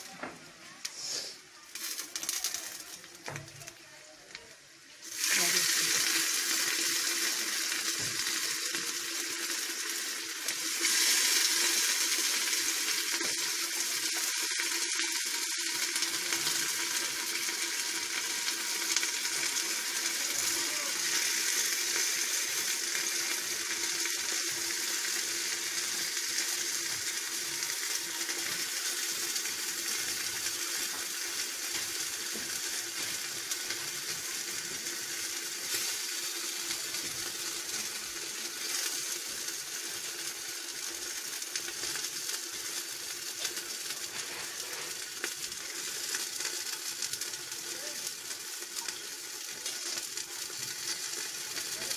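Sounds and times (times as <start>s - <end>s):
meat sizzling in hot oil: 0.0s - 4.0s, 4.7s - 51.9s.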